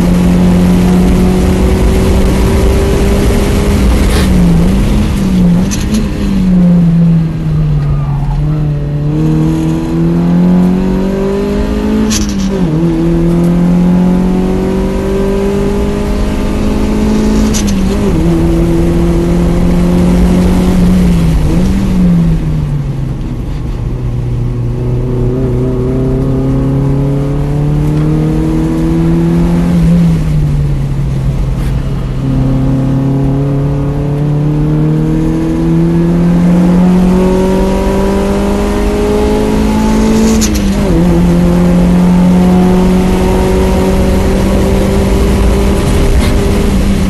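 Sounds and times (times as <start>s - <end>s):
car engine accelerating hard: 0.0s - 47.0s.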